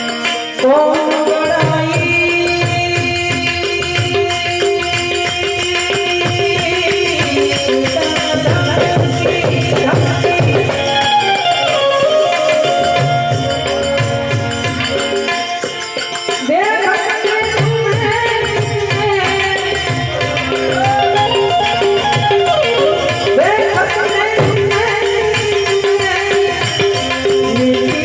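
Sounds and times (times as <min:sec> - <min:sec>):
harmonium melody: 0:00.0 - 0:28.0
hand drum beat: 0:00.7 - 0:28.0.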